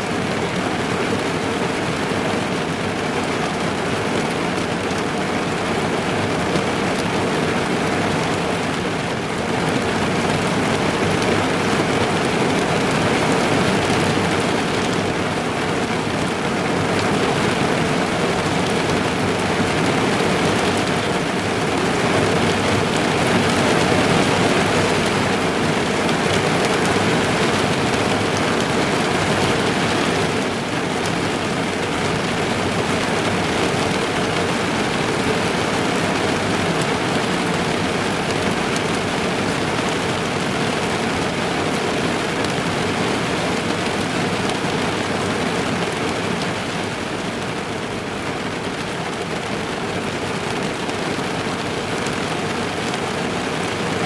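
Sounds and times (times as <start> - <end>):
heavy rain drumming on car roof: 0.0 - 54.0.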